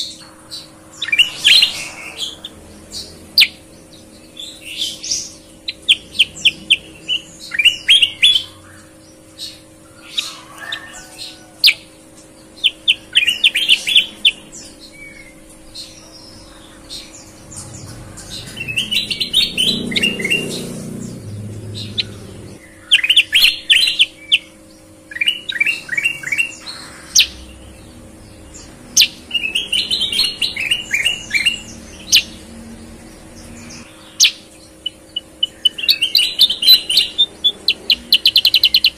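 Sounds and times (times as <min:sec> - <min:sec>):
bulbuls chirping: 0:00.0 - 0:38.9.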